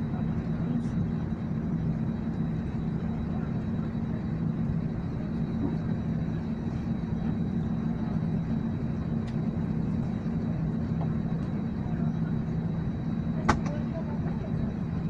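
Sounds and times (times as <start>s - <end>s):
airliner engines droning: 0.0s - 15.0s.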